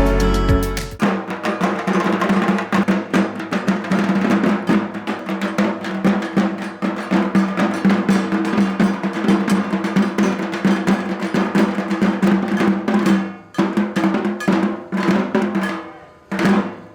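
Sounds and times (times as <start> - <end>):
barrel drum beaten with sticks: 0.0 - 16.9.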